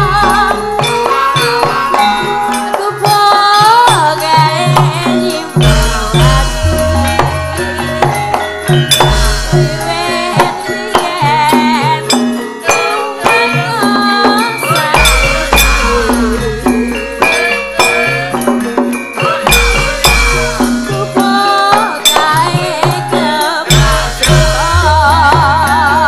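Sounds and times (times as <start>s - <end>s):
gamelan ensemble playing: 0.0s - 26.0s.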